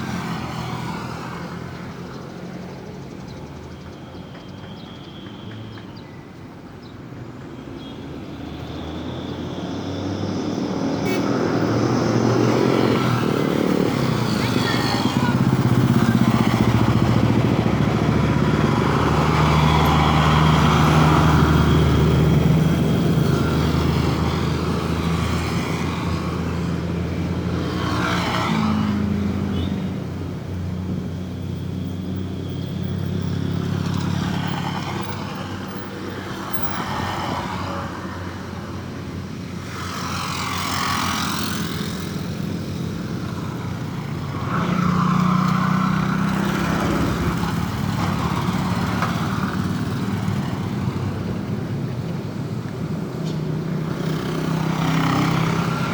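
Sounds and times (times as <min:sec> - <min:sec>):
vehicles driving past: 0:06.4 - 0:55.9.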